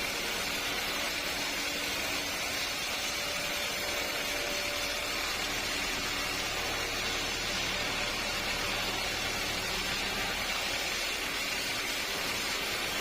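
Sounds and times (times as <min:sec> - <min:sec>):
sawmill machinery hissing: 0:00.0 - 0:13.0.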